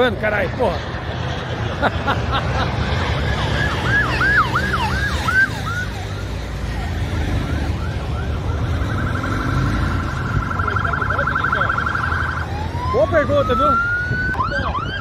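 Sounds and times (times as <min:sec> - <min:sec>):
low traffic rumble: 0:00.0 - 0:15.0
emergency siren wailing: 0:00.9 - 0:15.0.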